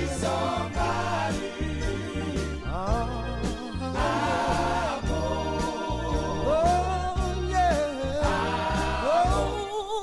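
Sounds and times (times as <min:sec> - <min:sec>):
bass line: 0:00.0 - 0:09.7
steady drum beat: 0:00.0 - 0:09.7.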